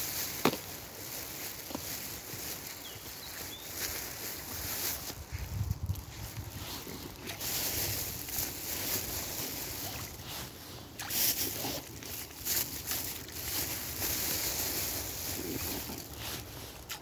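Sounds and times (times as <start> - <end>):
swans dabbling and splashing in water: 0.0 - 17.0.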